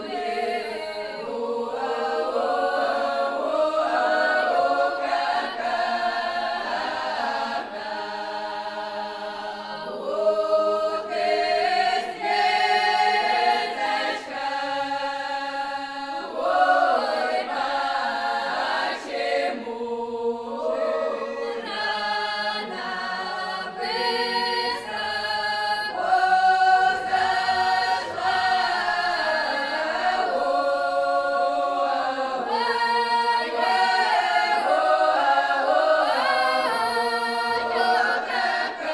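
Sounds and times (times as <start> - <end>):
choir singing unaccompanied: 0.0 - 38.9.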